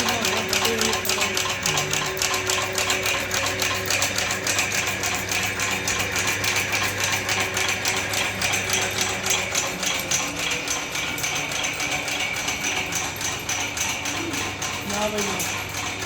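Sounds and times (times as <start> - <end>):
grinding machine clatter: 0.0 - 16.0
steady motor hum: 0.0 - 16.0.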